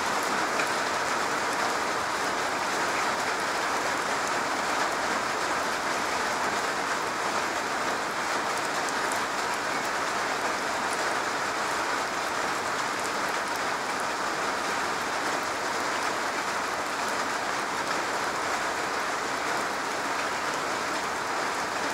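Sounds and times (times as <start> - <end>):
rain on a roof: 0.0 - 21.9.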